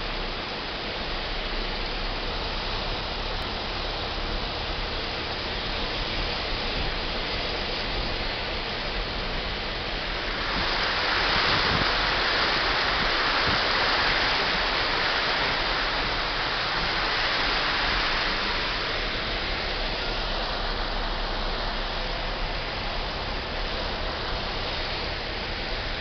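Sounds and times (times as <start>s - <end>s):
water rushing over a weir: 0.0s - 26.0s.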